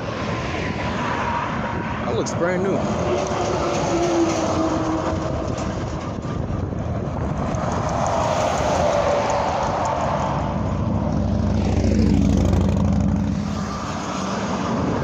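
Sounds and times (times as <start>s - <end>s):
highway traffic roar: 0.0s - 15.0s.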